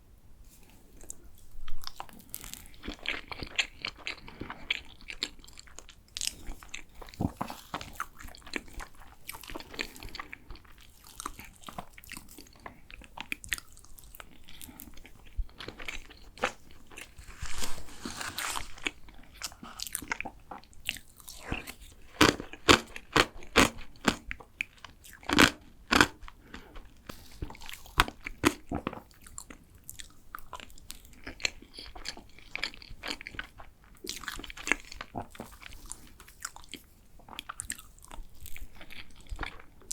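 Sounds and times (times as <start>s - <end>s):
biting and chewing cake: 0.9s - 39.9s.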